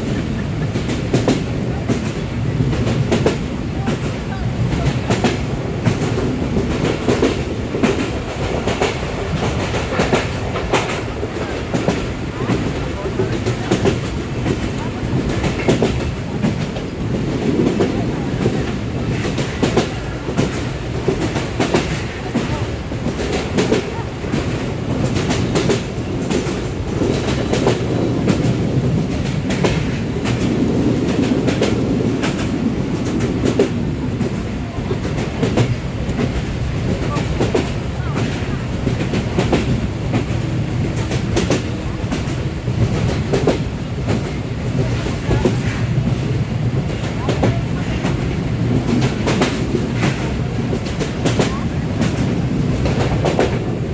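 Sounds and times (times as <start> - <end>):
train rumbling on track: 0.0 - 53.9
wheels clickety-clack over rail joints: 0.0 - 53.9.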